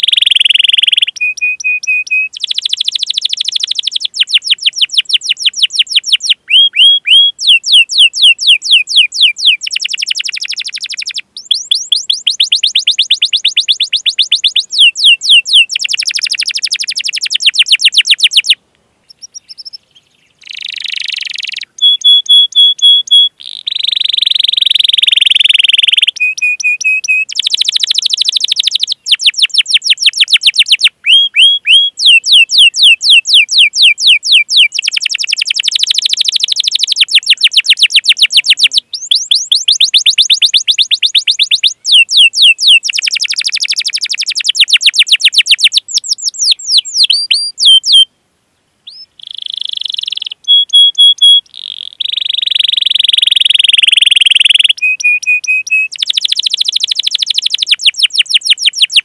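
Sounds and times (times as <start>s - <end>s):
bird whistled notes: 0.0s - 48.1s, 48.9s - 59.0s
canary chirping: 0.0s - 48.1s, 48.8s - 59.0s.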